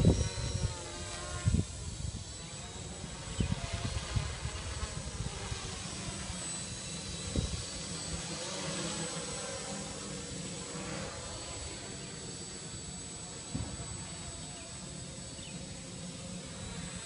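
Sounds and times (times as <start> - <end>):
drone motors whirring: 0.0 - 17.0.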